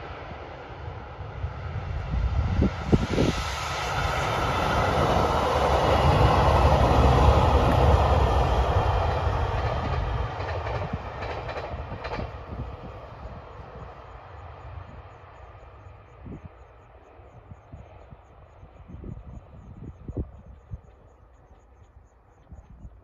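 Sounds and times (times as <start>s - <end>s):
diesel train engine rumble: 0.0s - 23.0s
train wheel noise: 0.0s - 23.0s.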